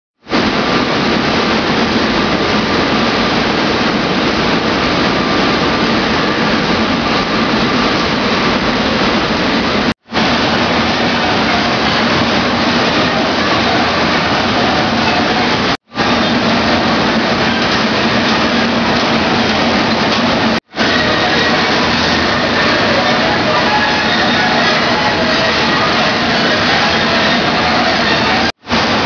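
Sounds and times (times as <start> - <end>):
factory machinery din: 0.2 - 29.0.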